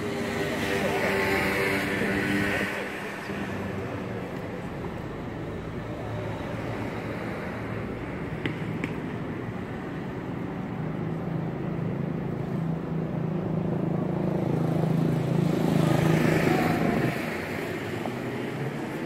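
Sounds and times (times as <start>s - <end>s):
urban street traffic: 0.0s - 19.0s.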